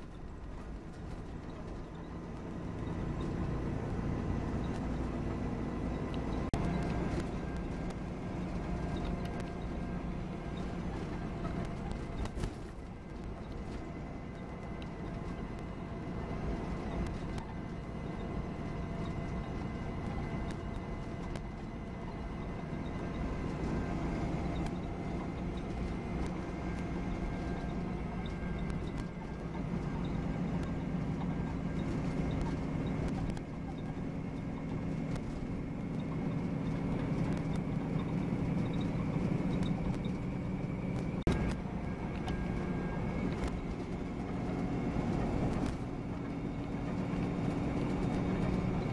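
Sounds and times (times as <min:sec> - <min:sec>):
coach engine and road rumble: 0:00.0 - 0:48.9.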